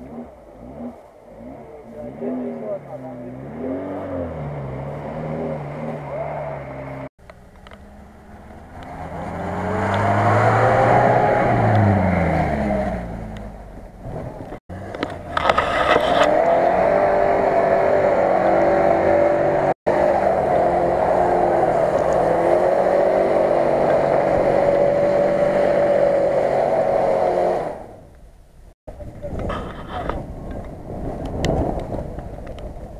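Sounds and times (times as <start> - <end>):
car engine at high revs: 0.0 - 28.2
car engine: 0.0 - 32.9.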